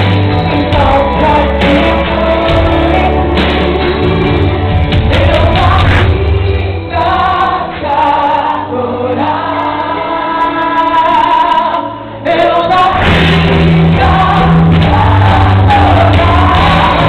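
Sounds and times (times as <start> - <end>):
gospel band playing: 0.0 - 17.0
woman singing into microphone: 0.4 - 17.0.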